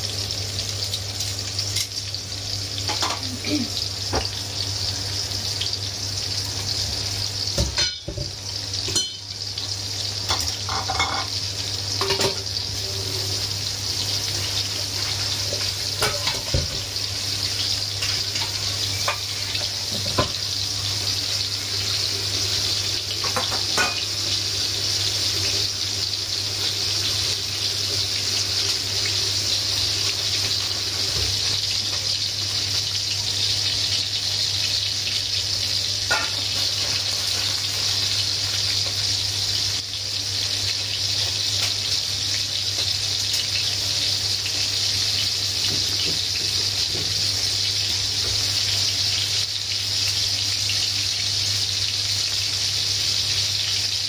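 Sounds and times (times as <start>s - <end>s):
pork chops sizzling in oil: 0.0s - 54.0s.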